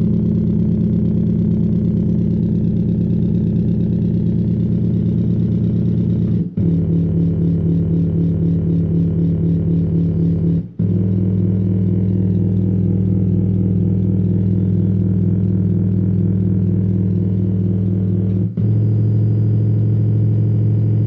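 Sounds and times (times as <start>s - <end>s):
deep synth bass notes: 0.0s - 21.0s.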